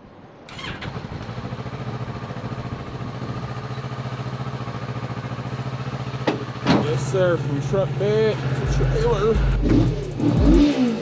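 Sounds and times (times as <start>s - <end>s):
motorcycle engine starting and idling: 0.4s - 11.0s.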